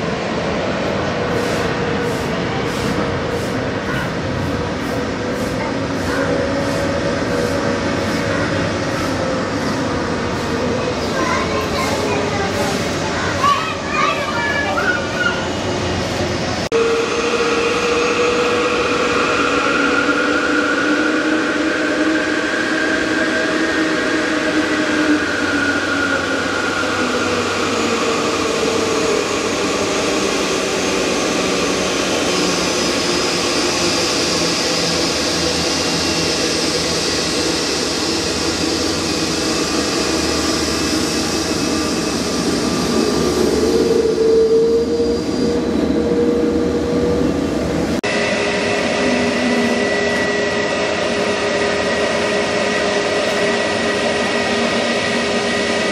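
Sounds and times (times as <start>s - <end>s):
high jet engine whine: 0.0s - 55.9s
jet engines whining: 0.0s - 55.9s.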